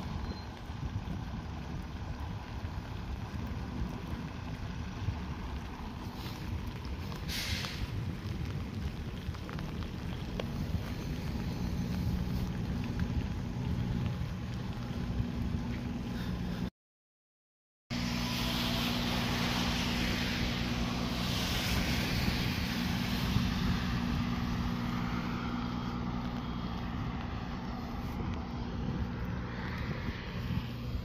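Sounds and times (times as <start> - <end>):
car engine hum: 0.0 - 16.7, 18.0 - 31.0
tyre and road noise: 0.0 - 16.7, 17.9 - 31.0.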